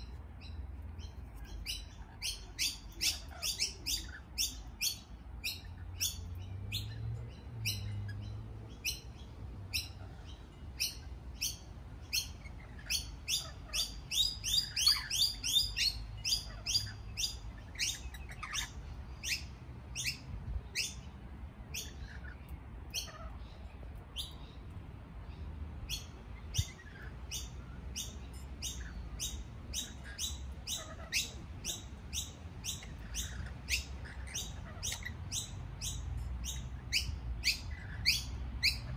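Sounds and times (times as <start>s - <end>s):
lorikeets chattering: 0.0s - 21.1s, 25.9s - 38.9s.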